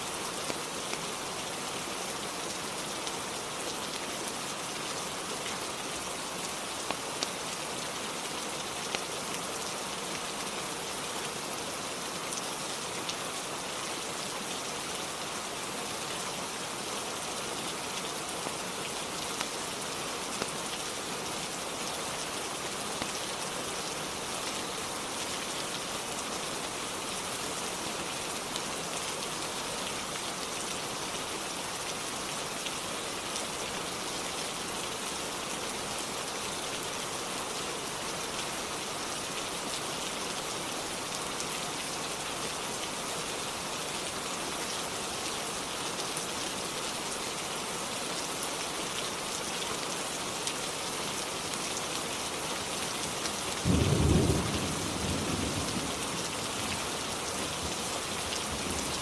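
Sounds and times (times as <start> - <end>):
rain pattering: 0.1 - 14.6, 15.2 - 59.0.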